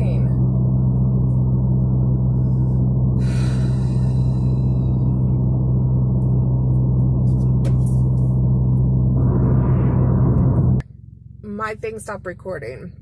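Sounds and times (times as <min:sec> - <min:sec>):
car engine and road hum: 0:00.0 - 0:13.0.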